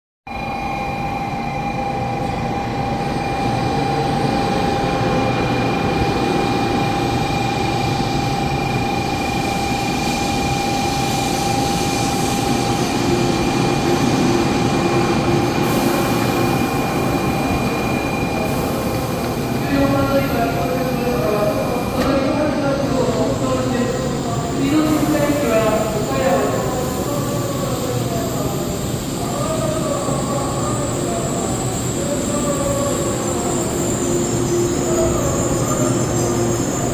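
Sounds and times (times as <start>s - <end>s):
high-speed train running: 0.3s - 36.9s.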